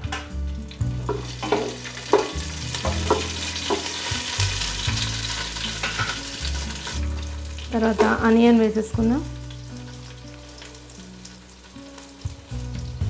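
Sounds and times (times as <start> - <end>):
chillies sizzling in hot oil: 0.0 - 13.0.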